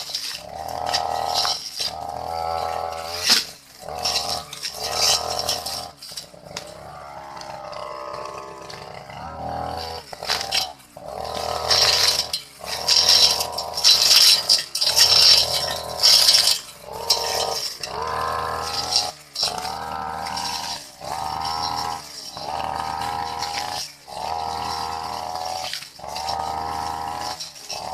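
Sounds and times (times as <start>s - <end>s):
brush cutter engine revving: 0.0s - 27.9s.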